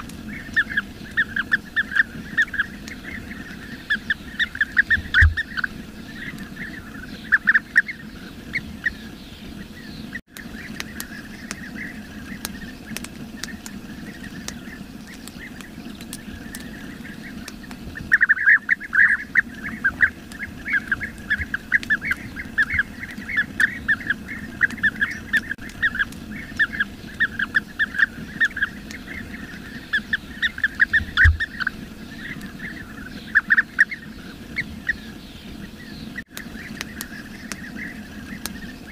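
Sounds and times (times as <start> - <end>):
birds calling rolling notes: 0.0 - 38.9.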